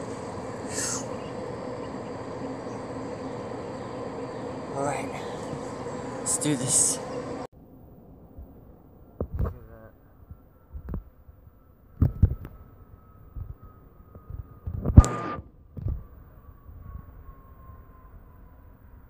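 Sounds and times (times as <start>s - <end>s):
jet airliner passing overhead: 0.0s - 7.5s, 9.6s - 19.0s.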